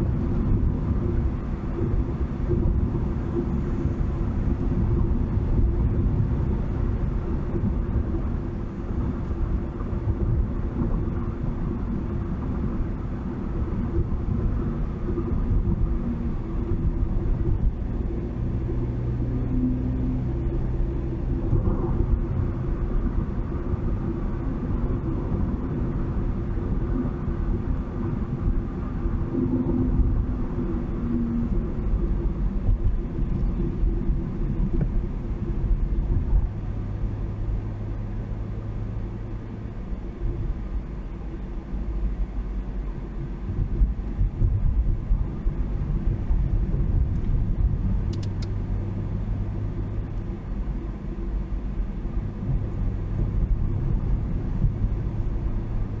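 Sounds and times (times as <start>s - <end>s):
vehicle driving on highway: 0.0s - 56.0s.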